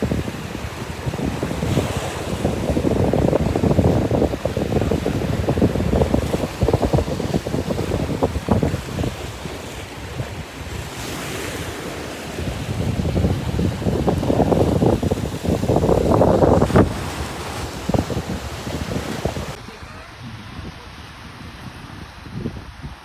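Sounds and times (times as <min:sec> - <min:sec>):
sea surf: 0:00.0 - 0:23.0
wind buffeting microphone: 0:00.0 - 0:23.0.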